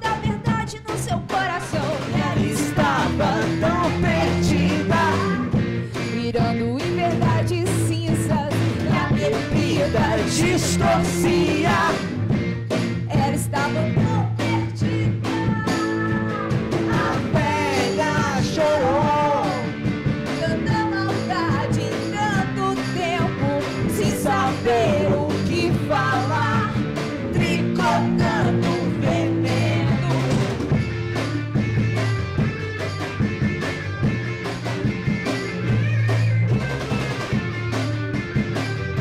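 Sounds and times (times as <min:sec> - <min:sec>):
bass guitar: 0:00.0 - 0:39.0
drums: 0:00.0 - 0:39.0
electric guitar lead melody: 0:01.9 - 0:39.0.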